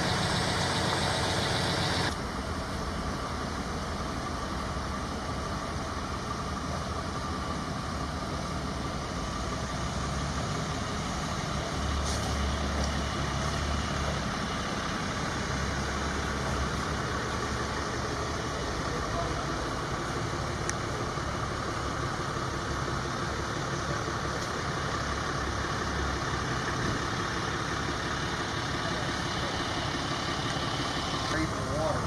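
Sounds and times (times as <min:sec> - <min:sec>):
heavy engine rumbling: 0:00.0 - 0:32.0
outdoor street noise hiss: 0:00.0 - 0:32.0.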